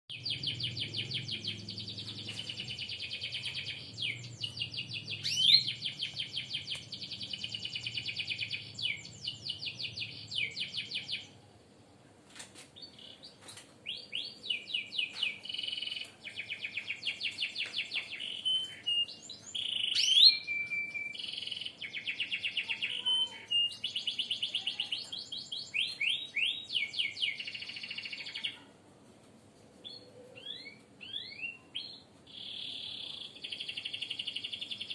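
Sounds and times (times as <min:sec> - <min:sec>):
birds singing fast trills: 0:00.1 - 0:11.4, 0:12.8 - 0:28.7, 0:29.8 - 0:34.9.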